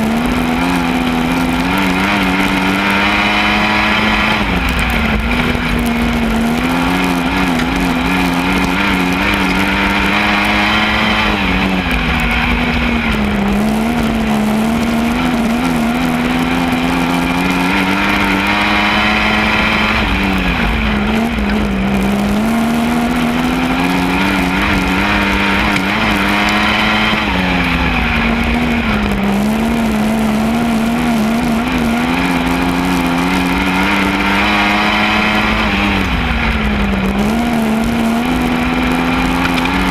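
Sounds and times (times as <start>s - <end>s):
sprint car engine lapping track: 0.0s - 39.9s.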